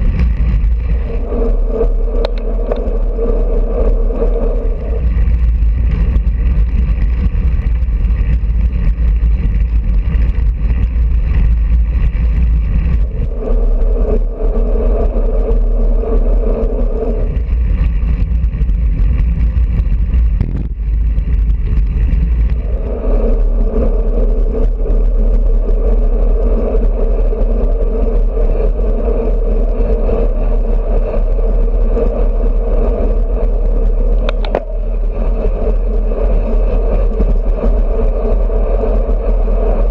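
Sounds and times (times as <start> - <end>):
steady hum: 0.0 - 39.9
wind rushing over microphone: 0.0 - 39.9.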